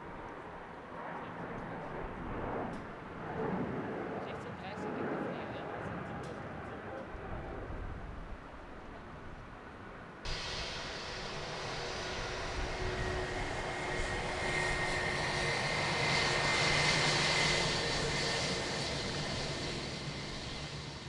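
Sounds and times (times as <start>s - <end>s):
jet airliner engines roaring: 0.0s - 7.9s, 10.3s - 21.0s.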